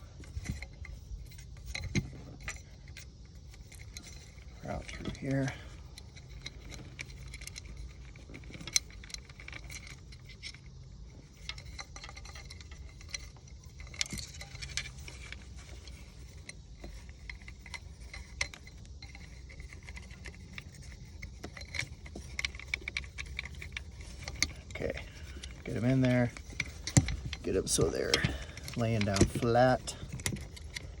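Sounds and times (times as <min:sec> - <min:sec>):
low steady hum: 0:00.0 - 0:31.0
small parts clicking and rattling: 0:00.0 - 0:31.0.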